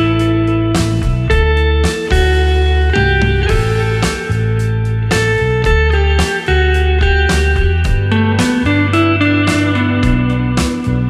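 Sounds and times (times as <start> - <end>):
heavy bass: 0.0 - 11.0
plucked guitar-like melody: 0.0 - 11.0.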